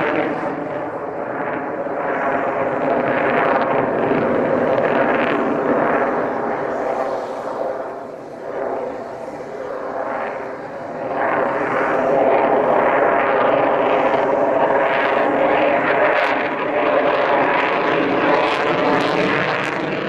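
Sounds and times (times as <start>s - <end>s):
jet engines overhead: 0.0s - 20.0s.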